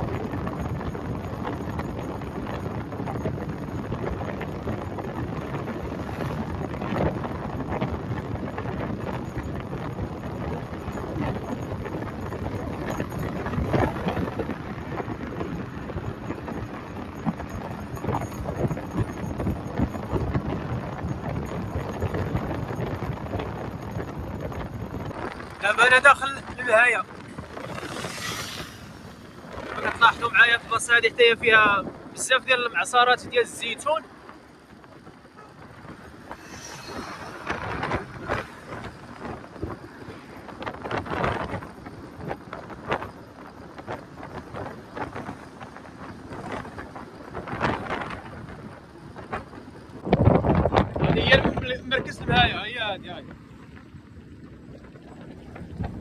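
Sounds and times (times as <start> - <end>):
road rumble: 0.0 - 56.0
wind buffeting microphone: 0.0 - 56.0.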